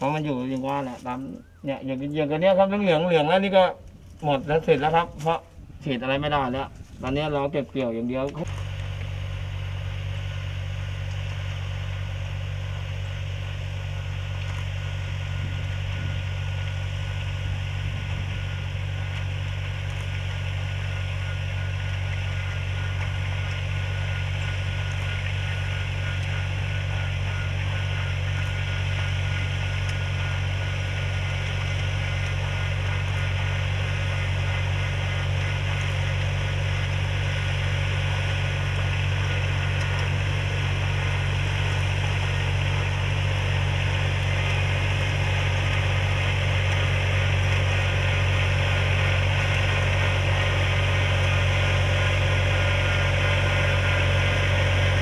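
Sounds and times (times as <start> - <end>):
crop sprayer engine running: 0.0 - 55.0.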